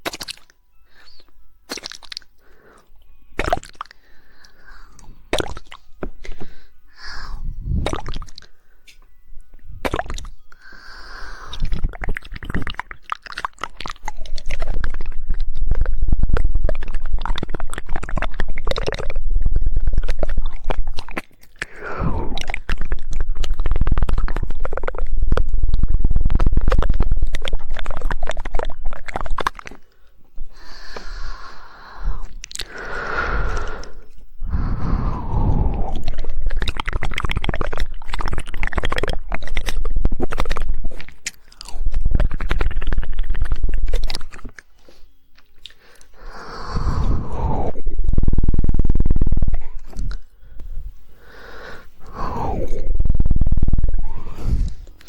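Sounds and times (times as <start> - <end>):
wet tongue clicking: 0.0 - 6.4, 7.7 - 9.0, 9.8 - 55.0
wet mouth noises: 0.0 - 9.0, 9.7 - 55.0.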